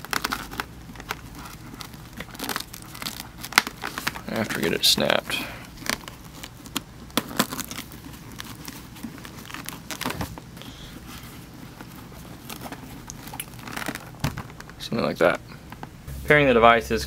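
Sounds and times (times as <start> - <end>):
padding rustling: 0.0 - 16.0.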